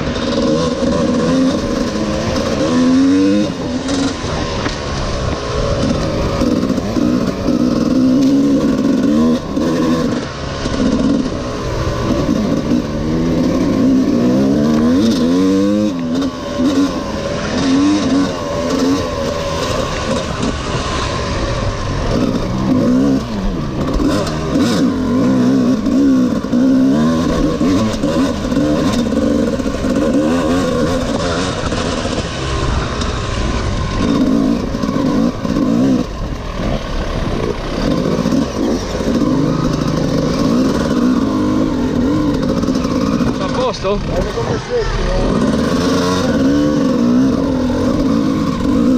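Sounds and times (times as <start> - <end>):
two-stroke engine revving: 0.0 - 48.9.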